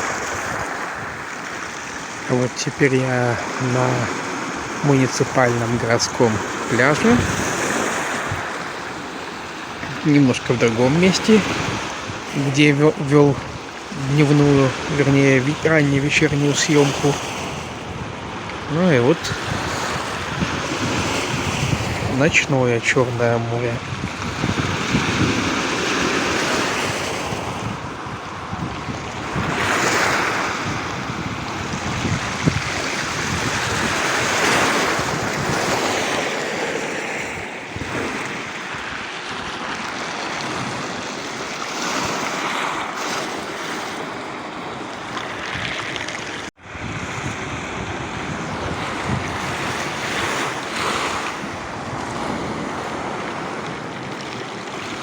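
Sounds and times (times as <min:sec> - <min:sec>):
wind noise on microphone: 0:00.0 - 0:01.3, 0:06.1 - 0:09.0, 0:09.8 - 0:12.5, 0:13.2 - 0:36.2, 0:37.2 - 0:43.8, 0:45.1 - 0:55.0
surf breaking on shore: 0:00.0 - 0:55.0.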